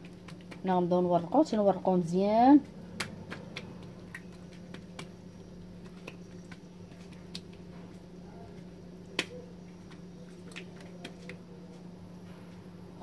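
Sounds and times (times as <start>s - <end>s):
hands slapping dough: 0.0s - 1.6s, 2.4s - 11.8s
low steady hum: 0.0s - 13.0s.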